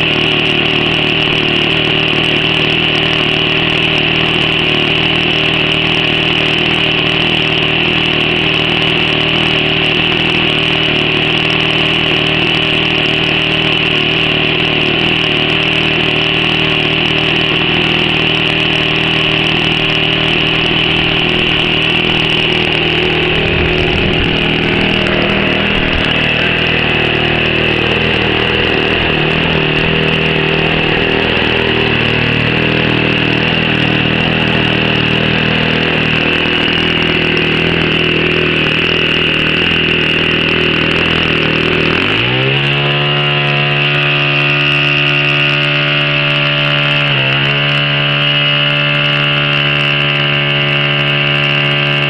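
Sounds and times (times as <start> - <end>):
model plane engine droning: 0.0 - 52.0.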